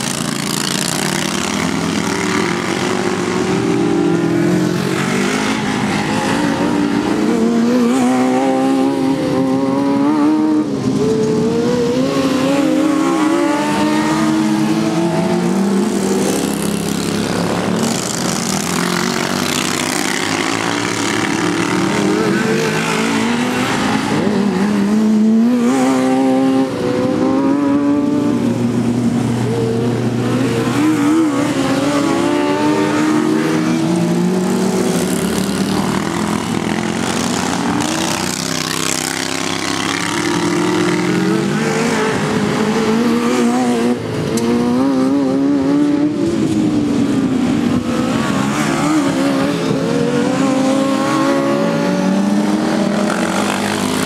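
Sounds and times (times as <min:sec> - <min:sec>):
racing lawn mower engines: 0:00.0 - 0:54.0.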